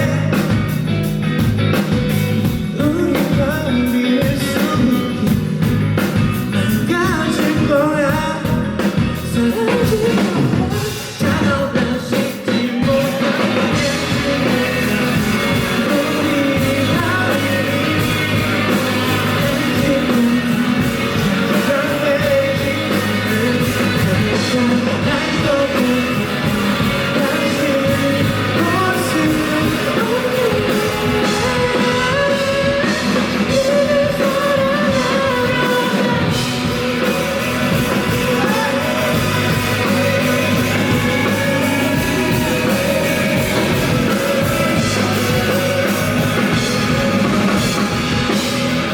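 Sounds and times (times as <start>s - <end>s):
rock band playing live: 0.0s - 48.9s
person singing: 2.7s - 5.7s, 6.5s - 48.9s.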